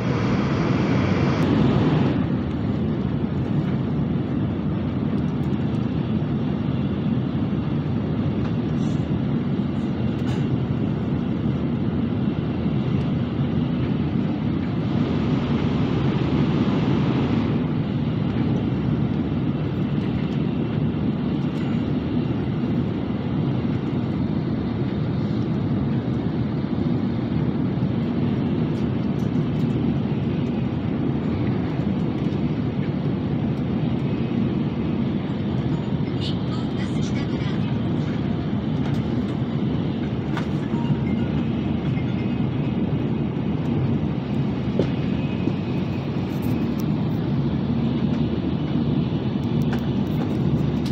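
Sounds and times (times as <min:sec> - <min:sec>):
train rumbling inside cabin: 0:00.0 - 0:50.9.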